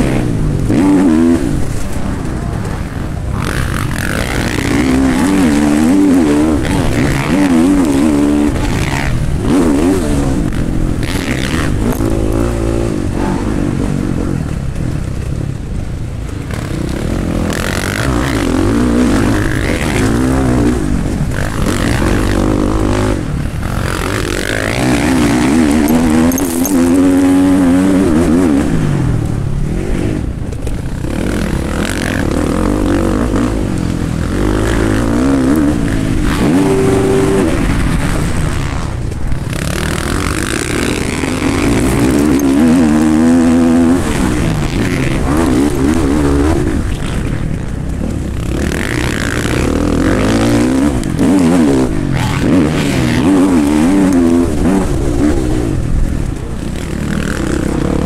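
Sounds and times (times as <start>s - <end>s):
motocross bike engine revving: 0.0s - 15.3s, 16.0s - 58.0s.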